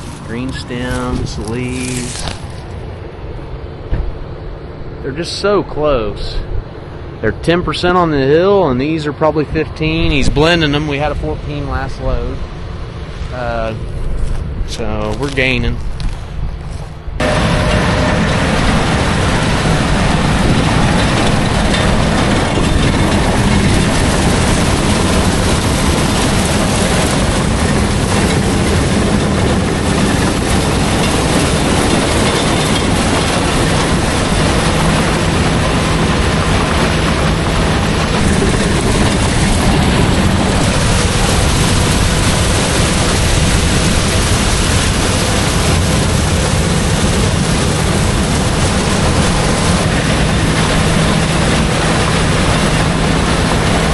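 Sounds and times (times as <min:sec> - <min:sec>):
heavy farm machinery rumbling: 0:00.0 - 0:53.9.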